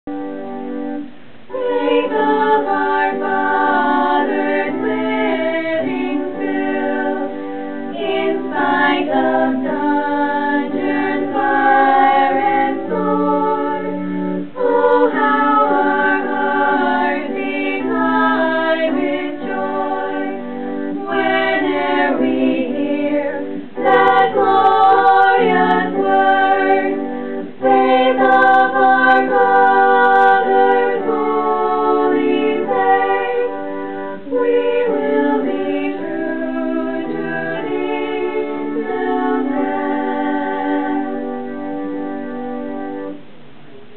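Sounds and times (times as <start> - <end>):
young women singing together: 1.5 - 41.7.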